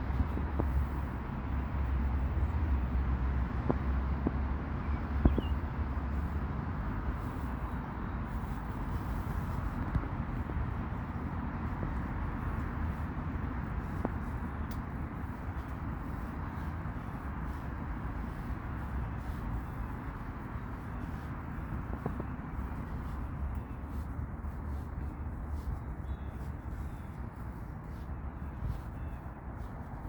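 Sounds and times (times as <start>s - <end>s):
outdoor background rumble: 0.0s - 30.0s.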